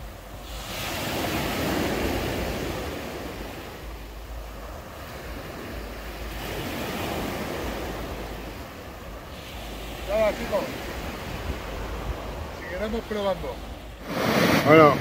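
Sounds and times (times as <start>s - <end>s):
waves breaking on a beach: 0.0s - 15.0s
wind buffeting microphone: 0.0s - 15.0s.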